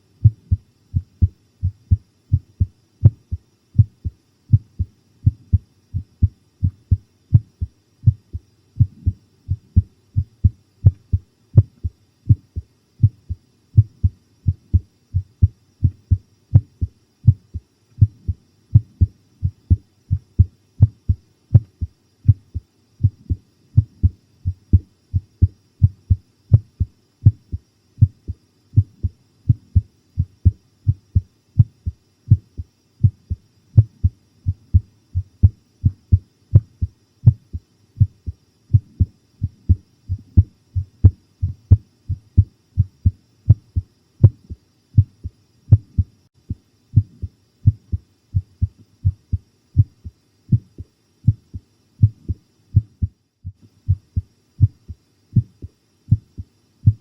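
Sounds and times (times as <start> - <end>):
heartbeat thumps: 0.2 - 57.0.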